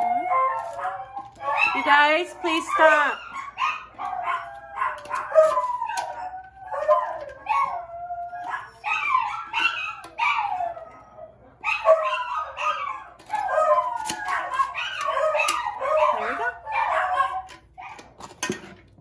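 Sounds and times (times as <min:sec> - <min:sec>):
dogs howling and whining: 0:00.0 - 0:18.2.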